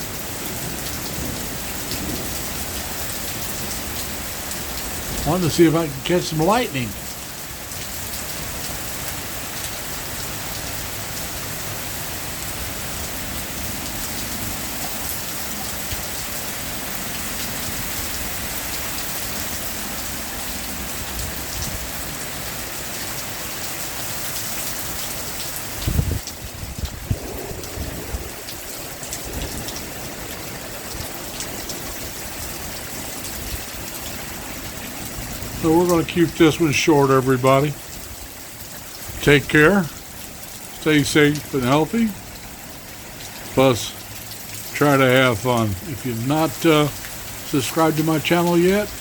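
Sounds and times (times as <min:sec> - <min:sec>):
heavy rain: 0:00.0 - 0:49.0.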